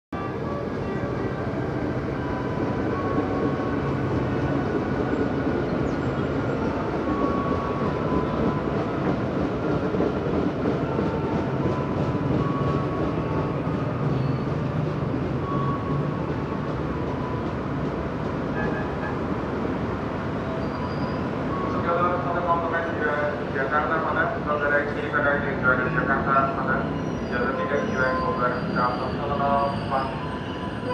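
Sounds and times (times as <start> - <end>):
train wheels and motors rumbling: 0.3 - 30.9.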